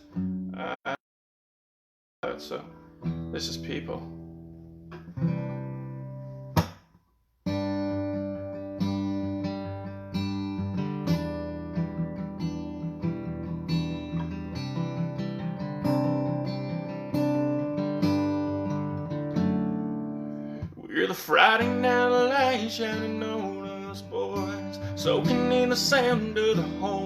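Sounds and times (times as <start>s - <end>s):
acoustic guitar strumming: 2.2s - 6.8s, 7.4s - 27.0s.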